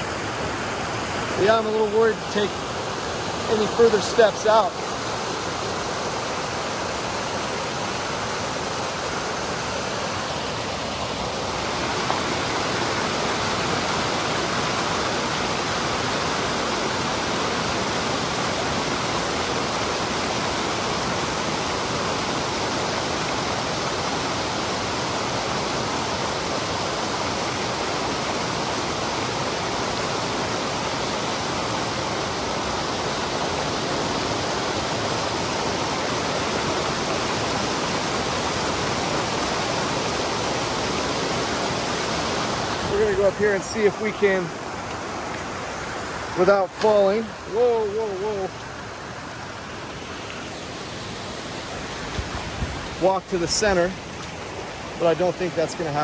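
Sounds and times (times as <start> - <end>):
creek water cascading over rocks: 0.0 - 56.0.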